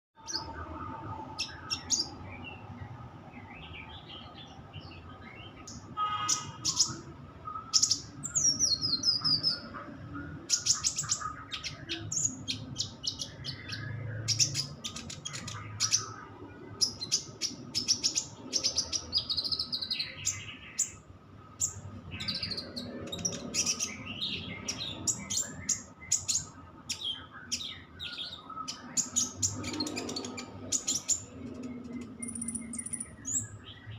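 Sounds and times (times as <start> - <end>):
songbird chirping and trilling: 0.2 - 33.9.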